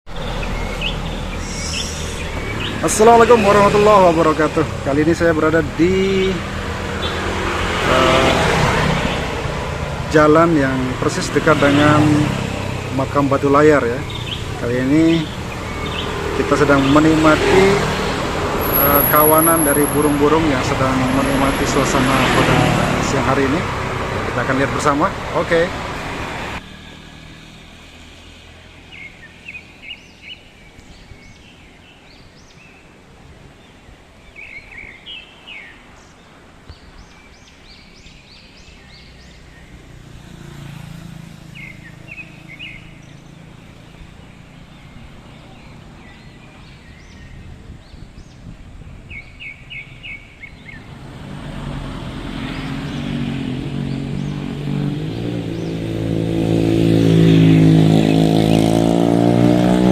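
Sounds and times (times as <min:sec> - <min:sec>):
birds chirping: 0:00.0 - 0:59.9
motor vehicles passing: 0:00.1 - 0:59.9.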